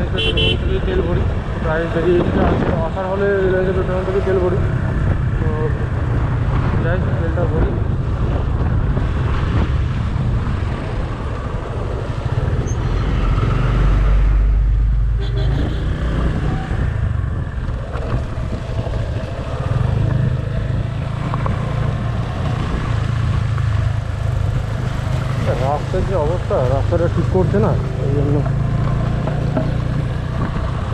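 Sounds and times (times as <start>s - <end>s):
motorcycle engine drone: 0.0s - 30.9s
road rumble: 0.0s - 30.9s
wind: 0.0s - 30.9s.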